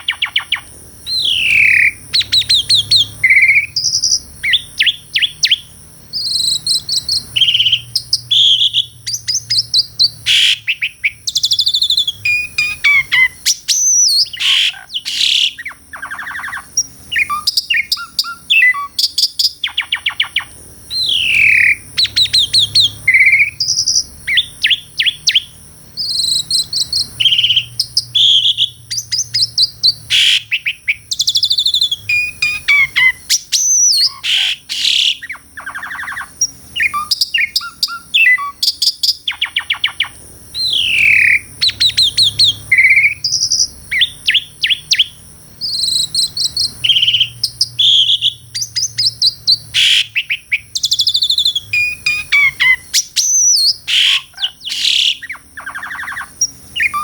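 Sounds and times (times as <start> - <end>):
starling singing whistled song: 0.0 - 57.0.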